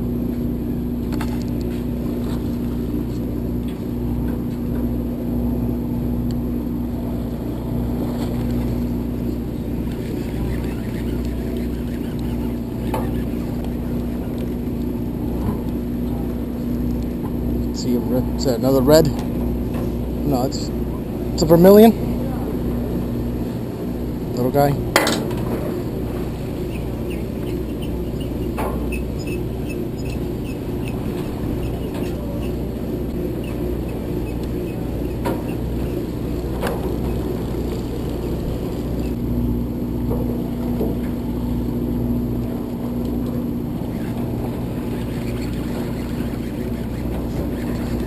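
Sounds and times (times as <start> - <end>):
boat engine drone: 0.0 - 48.0
steady hum: 0.0 - 48.0.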